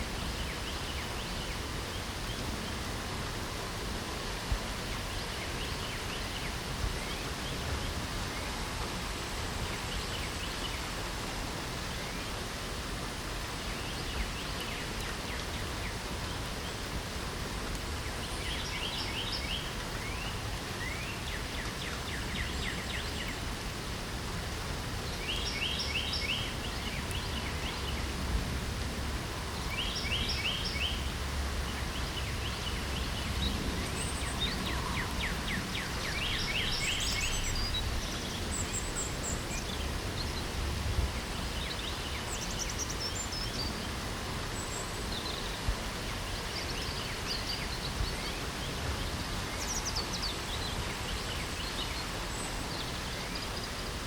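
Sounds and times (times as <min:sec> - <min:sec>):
songbirds singing: 0:00.0 - 0:03.0, 0:04.1 - 0:11.2, 0:13.4 - 0:23.6, 0:24.8 - 0:54.0
steady rain hiss: 0:00.0 - 0:54.0.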